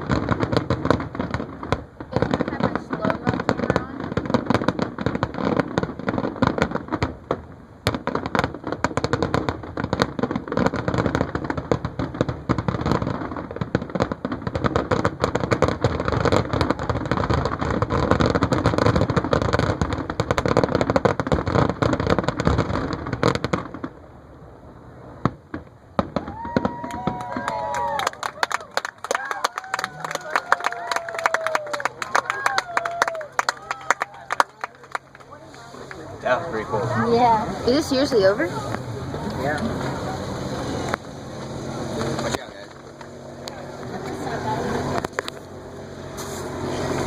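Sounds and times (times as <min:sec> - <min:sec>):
scattered firework pops: 0:00.0 - 0:24.0, 0:25.2 - 0:36.1, 0:40.8 - 0:44.2, 0:44.9 - 0:45.5
fireworks bangs and crackles: 0:00.0 - 0:47.0.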